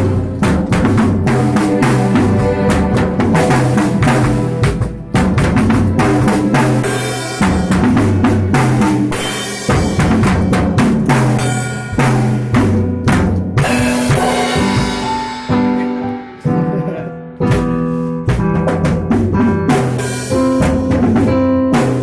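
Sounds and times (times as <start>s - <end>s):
drum kit beating: 0.0s - 22.0s
live band playing: 0.0s - 22.0s.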